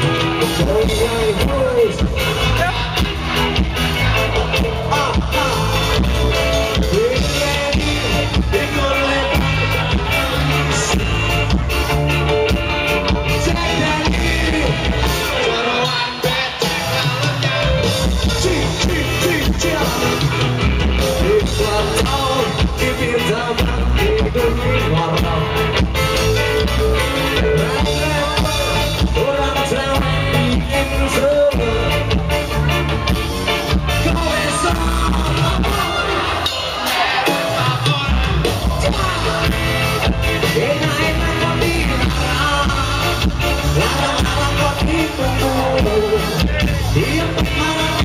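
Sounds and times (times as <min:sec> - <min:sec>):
bass guitar: 0:00.0 - 0:48.0
drum kit beat: 0:00.0 - 0:48.0
electric guitars: 0:00.0 - 0:48.0
person singing: 0:00.0 - 0:48.0.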